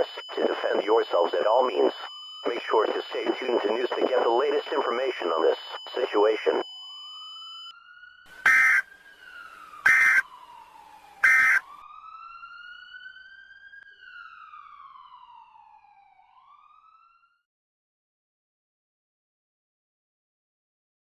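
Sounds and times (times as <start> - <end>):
police siren wailing: 0.0 - 17.4.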